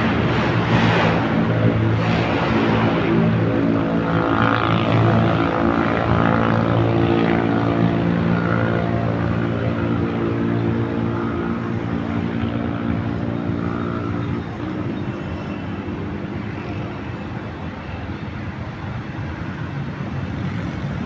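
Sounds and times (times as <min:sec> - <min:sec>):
low engine hum: 0:00.0 - 0:17.1
city background rush: 0:00.0 - 0:21.0.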